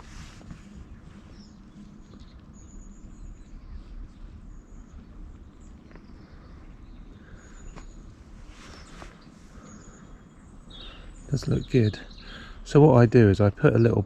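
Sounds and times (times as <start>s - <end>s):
constant low rumble: 0.0s - 14.0s.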